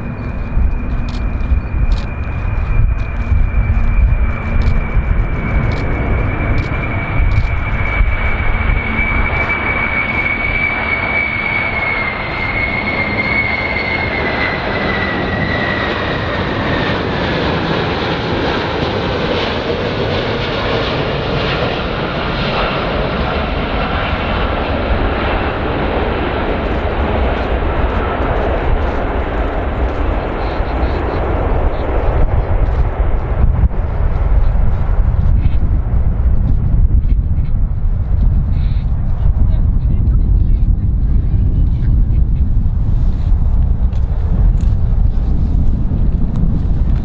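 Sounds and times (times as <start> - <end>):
aeroplane engines passing: 0.0 - 47.0.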